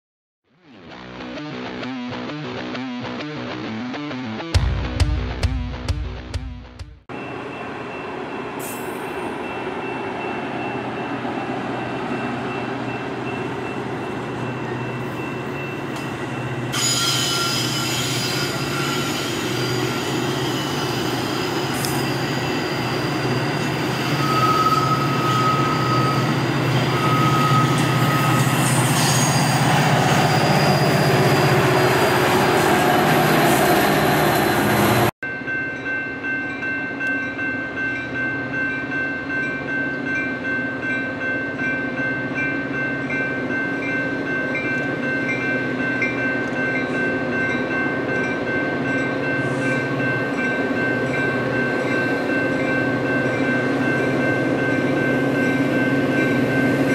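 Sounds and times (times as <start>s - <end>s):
crossing signal bell ringing: 7.1s - 32.4s, 35.2s - 56.9s
train cars and wheels rumbling: 7.1s - 56.9s.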